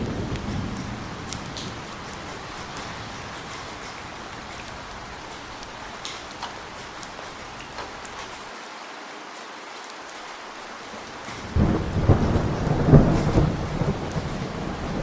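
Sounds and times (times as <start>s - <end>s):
low thunder rumble: 0.0s - 8.4s, 11.0s - 15.0s
heavy rain hissing: 0.0s - 15.0s
raindrops ticking close by: 0.0s - 15.0s.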